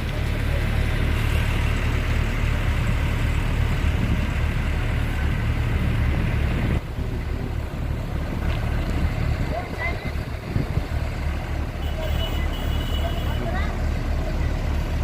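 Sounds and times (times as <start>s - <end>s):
diesel machinery engine rumbling: 0.0s - 15.0s.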